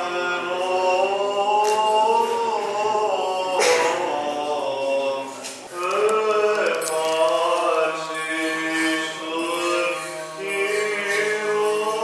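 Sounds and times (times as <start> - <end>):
men's voices chanting: 0.0 - 12.0.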